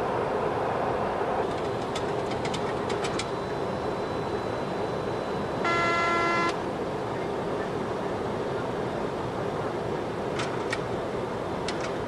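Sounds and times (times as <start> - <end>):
jet engines: 0.0 - 12.0.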